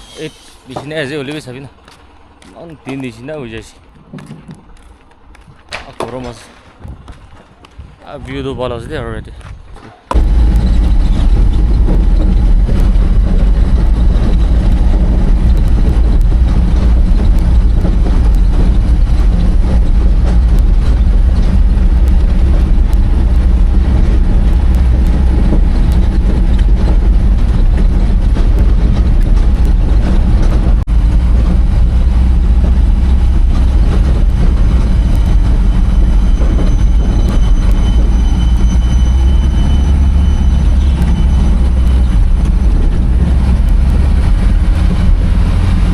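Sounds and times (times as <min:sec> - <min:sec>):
heavy vehicle engine running: 0:00.0 - 0:07.1, 0:10.1 - 0:45.9.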